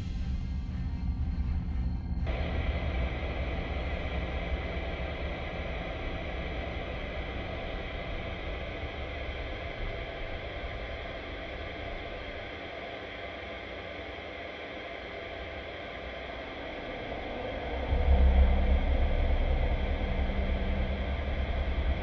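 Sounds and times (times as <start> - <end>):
deep low rumble: 0.0 - 12.4, 16.8 - 22.0.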